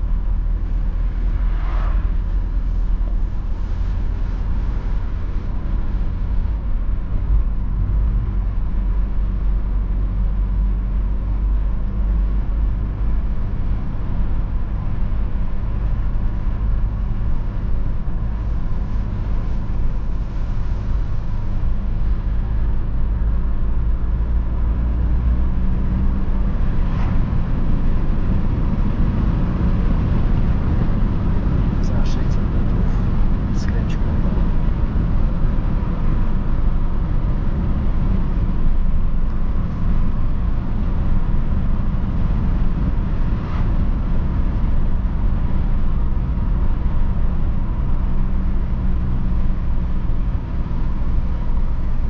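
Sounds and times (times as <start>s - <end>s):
car engine cruising: 0.0s - 52.0s
tyre and road noise: 0.0s - 52.0s.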